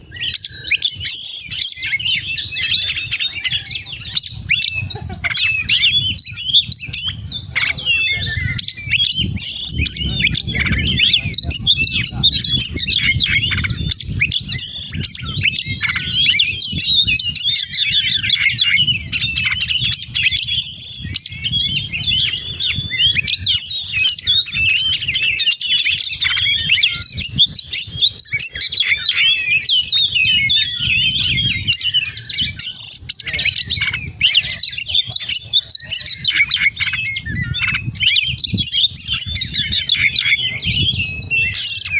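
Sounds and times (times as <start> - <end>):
bird singing whistles and chirps: 0.0 - 41.9.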